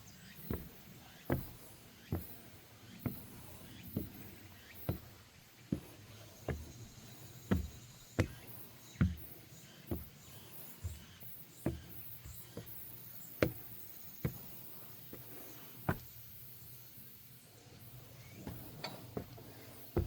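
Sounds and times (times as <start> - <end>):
footsteps on wooden deck: 0.0 - 20.0.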